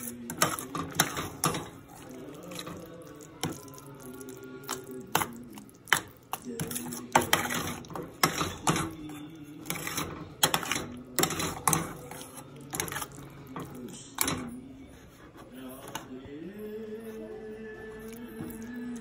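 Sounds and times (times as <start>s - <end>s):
metal spoon scraping a saucepan: 0.0s - 19.0s.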